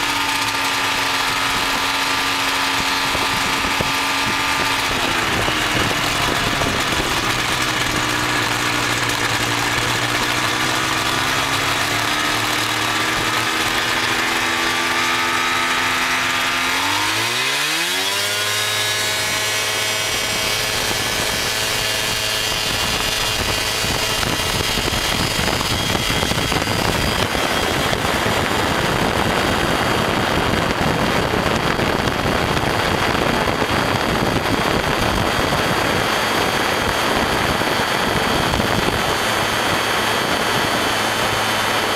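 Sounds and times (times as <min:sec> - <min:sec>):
ultralight aircraft engine and propeller: 0:00.0 - 0:41.9
wind on microphone: 0:00.0 - 0:41.9.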